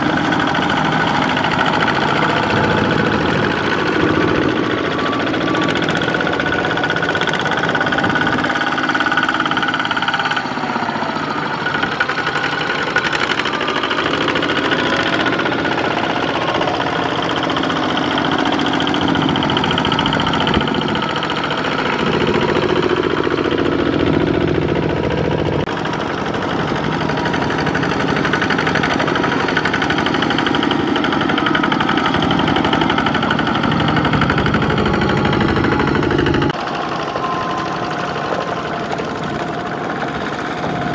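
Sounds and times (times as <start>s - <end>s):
diesel engines chugging: 0.0s - 40.9s.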